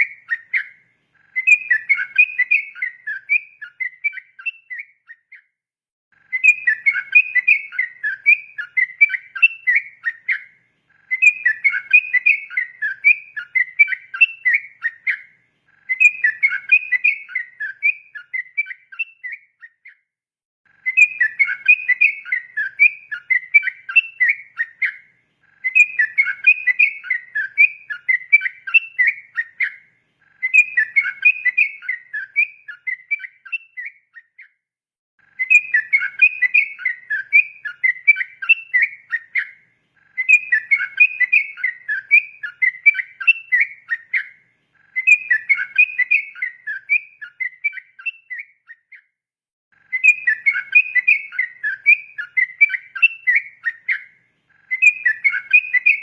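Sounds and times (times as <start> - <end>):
bulbul singing bubbly whistles: 0.0 - 5.4, 6.3 - 10.5, 11.1 - 19.9, 20.8 - 29.8, 30.4 - 34.5, 35.4 - 49.0, 49.9 - 56.0.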